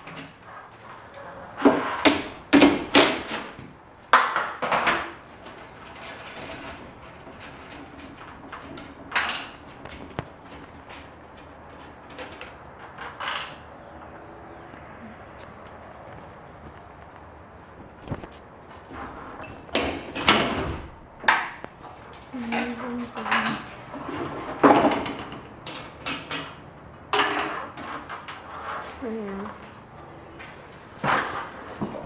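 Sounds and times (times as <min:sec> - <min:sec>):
hard objects knocking and clattering: 0:01.1 - 0:28.9.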